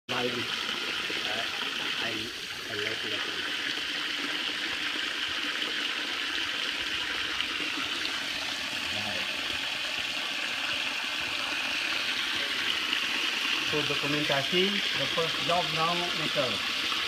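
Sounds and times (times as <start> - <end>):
hose pouring water: 0.1 - 17.0
water churning in a tank: 0.1 - 17.0.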